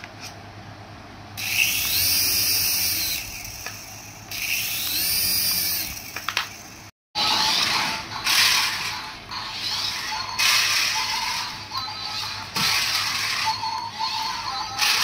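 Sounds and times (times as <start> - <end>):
toy car whirring on tile floor: 1.4 - 15.0
toy helicopter motor whirring: 1.4 - 15.0.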